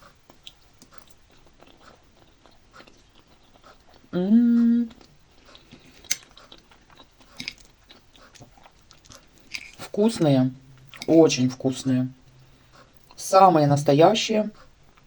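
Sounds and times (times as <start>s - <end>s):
person chewing food: 0.0s - 11.2s, 12.2s - 13.2s, 14.6s - 15.0s.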